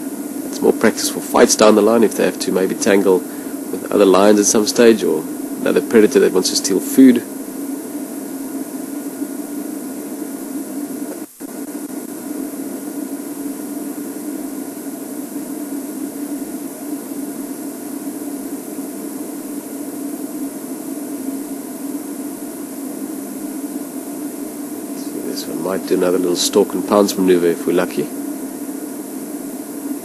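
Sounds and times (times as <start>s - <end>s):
low hum: 0.0s - 30.0s
steady hiss: 0.0s - 30.0s.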